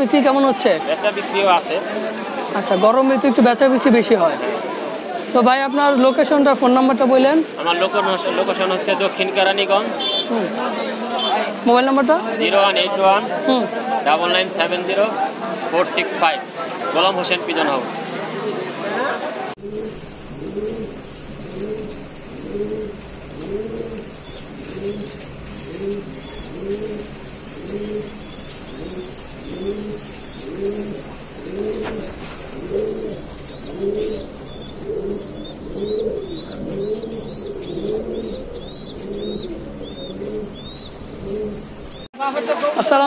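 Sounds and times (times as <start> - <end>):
pigeons cooing: 0.2 - 11.6, 14.4 - 42.1.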